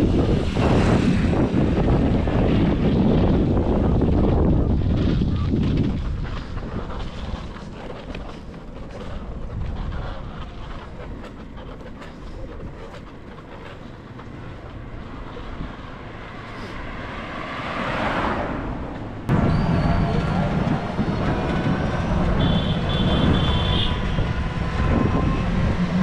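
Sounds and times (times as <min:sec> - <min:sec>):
wind on microphone: 0:00.0 - 0:17.4, 0:18.0 - 0:26.0
bicycle road noise: 0:00.0 - 0:26.0
vehicle traffic: 0:00.0 - 0:26.0.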